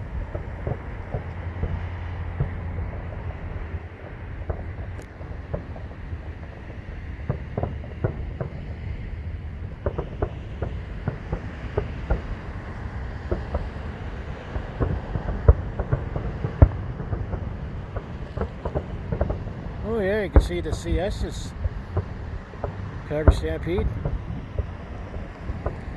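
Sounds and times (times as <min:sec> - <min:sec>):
distant fireworks bangs: 0:00.0 - 0:25.9.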